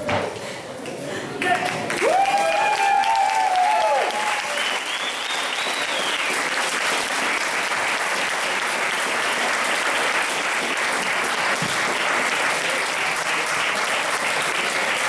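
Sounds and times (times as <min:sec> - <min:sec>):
crowd applauding: 0:01.3 - 0:15.0.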